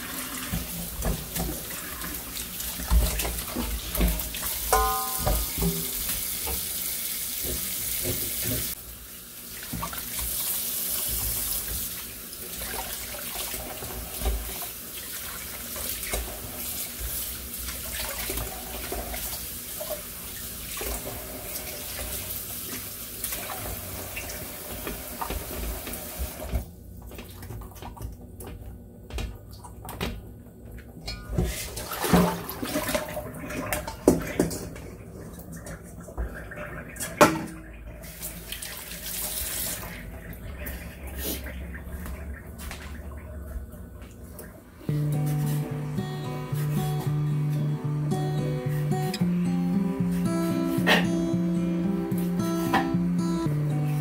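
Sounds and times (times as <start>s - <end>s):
tap water running into sink: 0.0s - 30.8s, 31.4s - 53.7s.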